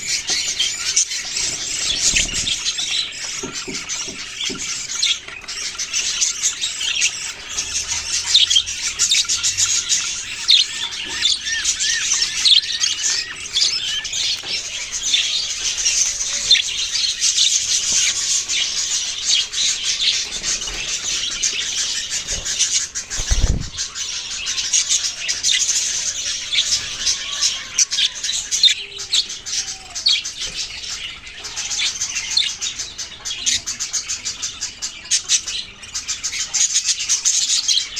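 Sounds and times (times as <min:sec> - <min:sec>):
budgerigars chirping and chattering: 0:00.0 - 0:37.9.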